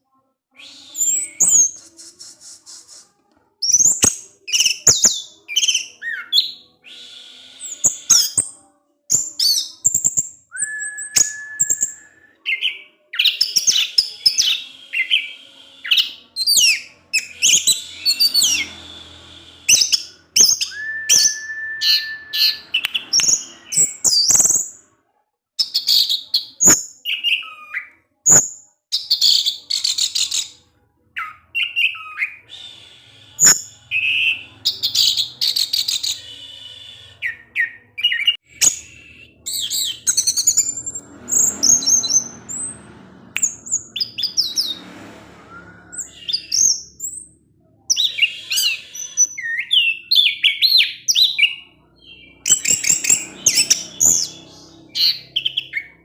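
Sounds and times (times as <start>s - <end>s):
thrush singing whistled phrases: 0.5s - 24.9s, 25.6s - 56.0s.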